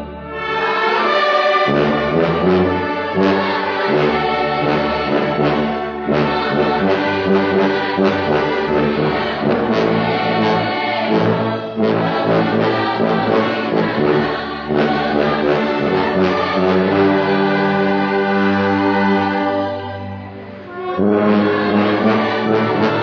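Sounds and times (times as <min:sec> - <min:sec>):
brass ensemble playing a hymn: 0:00.0 - 0:23.0.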